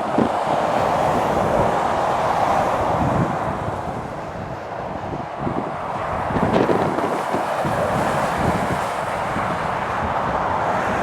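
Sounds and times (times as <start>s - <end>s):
traffic on wet road: 0.0s - 11.0s
wind buffeting microphone: 0.0s - 11.0s.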